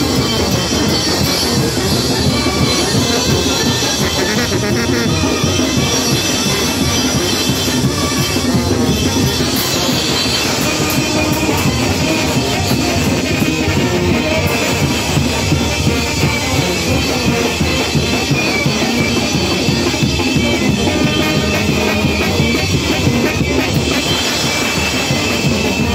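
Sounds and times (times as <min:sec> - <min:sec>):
brass band playing: 0:00.0 - 0:25.9
pounding drums: 0:00.0 - 0:25.9.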